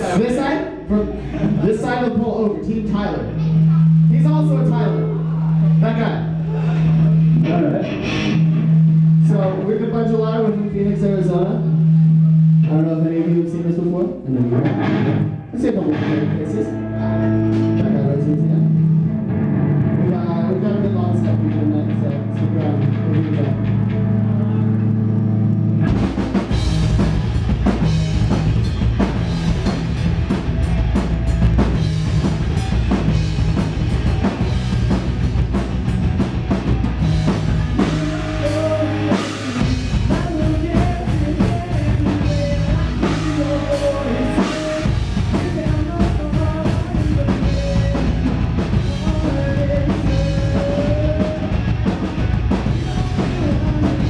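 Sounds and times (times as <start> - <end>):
drum kit: 0.0 - 12.9, 13.8 - 54.0
live rock band playing: 0.0 - 54.0
electric guitar: 2.5 - 10.6, 14.0 - 54.0.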